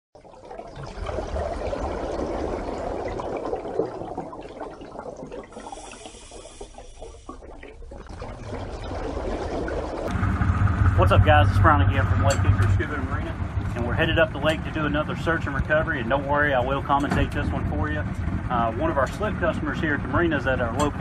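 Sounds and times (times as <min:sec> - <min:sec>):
running water: 0:00.2 - 0:10.2, 0:11.0 - 0:21.0.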